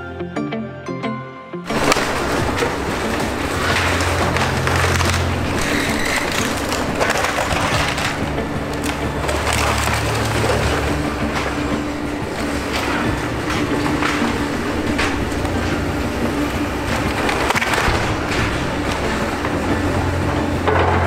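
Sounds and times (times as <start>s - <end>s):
excavator diesel engines running: 1.7s - 21.0s
wood cracking and snapping: 1.7s - 21.0s.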